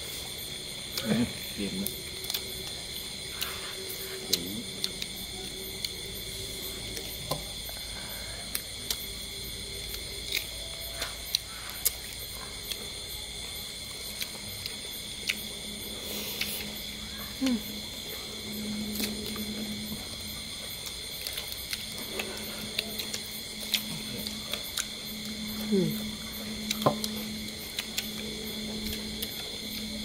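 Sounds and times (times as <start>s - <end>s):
night insects chorus: 0.0s - 30.0s
people eating with clicks and smacks: 0.0s - 30.0s.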